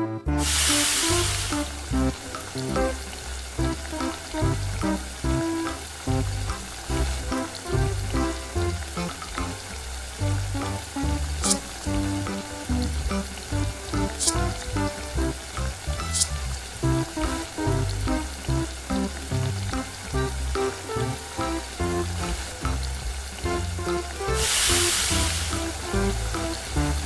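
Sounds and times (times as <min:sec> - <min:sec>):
food sizzling in a wok: 0:00.4 - 0:27.0.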